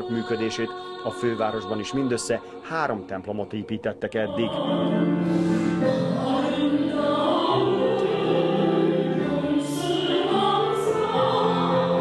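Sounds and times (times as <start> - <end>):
women's choir singing: 0.0 - 12.0.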